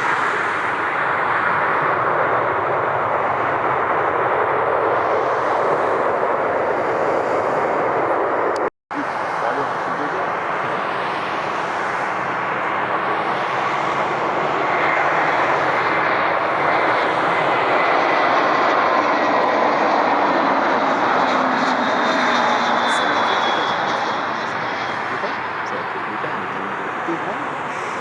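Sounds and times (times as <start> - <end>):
jet engines passing: 0.0 - 28.0.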